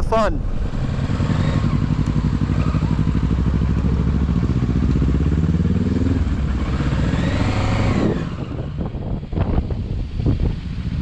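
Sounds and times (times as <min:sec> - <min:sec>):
motorcycle engine accelerating: 0:00.4 - 0:11.0.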